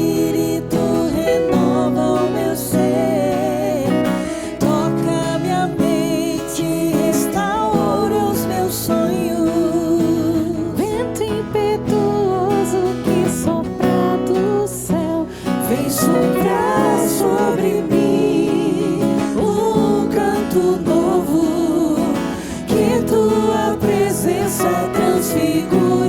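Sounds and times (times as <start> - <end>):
strummed acoustic guitar: 0.0 - 26.0
voices singing: 0.0 - 26.0.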